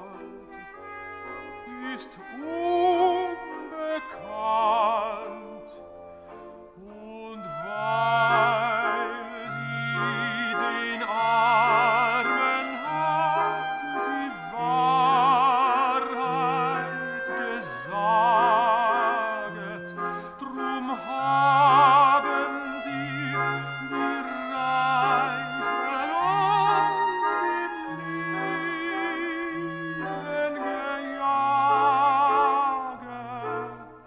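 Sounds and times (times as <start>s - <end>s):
classical accompaniment: 0.0s - 34.0s
operatic singing: 0.0s - 34.0s.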